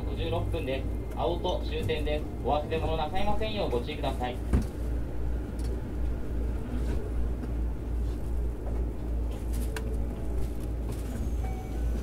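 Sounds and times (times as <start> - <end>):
low rumble inside train: 0.0 - 12.0.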